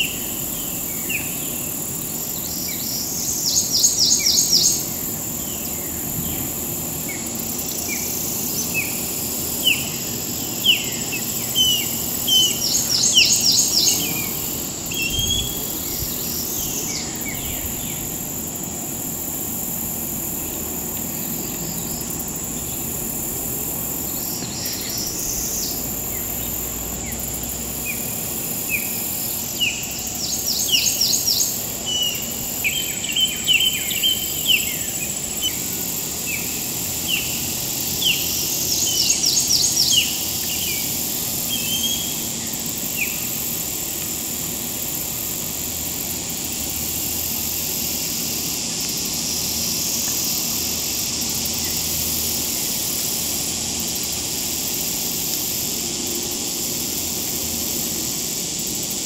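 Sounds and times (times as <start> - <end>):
insect drone: 0.0 - 59.0.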